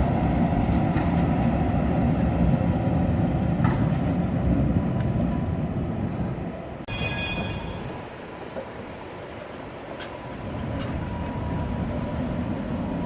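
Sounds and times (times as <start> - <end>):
tram rumbling on track: 0.0 - 13.0.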